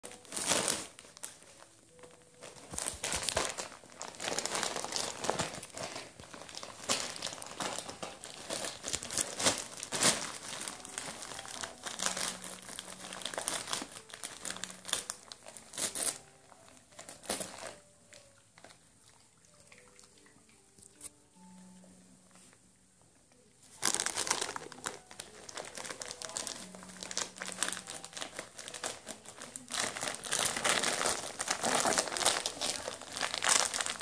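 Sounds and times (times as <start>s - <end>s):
wrapping paper crinkling: 0.0s - 18.8s, 23.7s - 34.0s.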